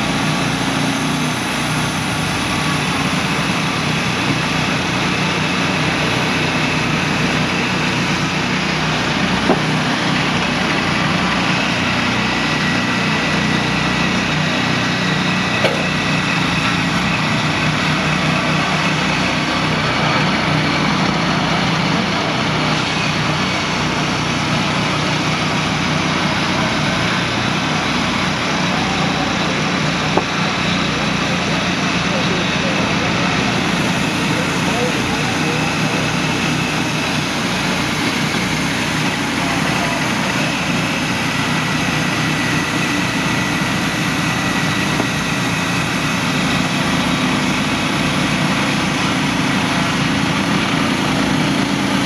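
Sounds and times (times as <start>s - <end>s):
small gasoline engines running: 0.0s - 52.0s.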